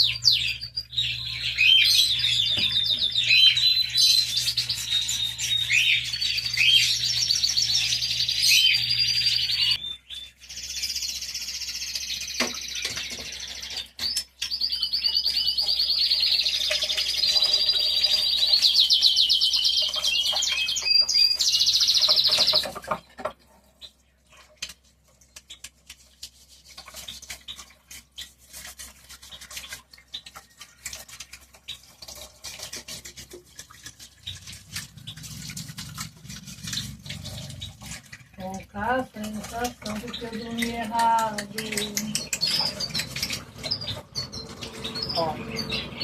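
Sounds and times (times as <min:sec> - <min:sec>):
brush scrubbing plastic: 0:00.0 - 0:09.7, 0:15.7 - 0:46.0
songbirds trilling: 0:00.0 - 0:24.4, 0:26.9 - 0:46.0.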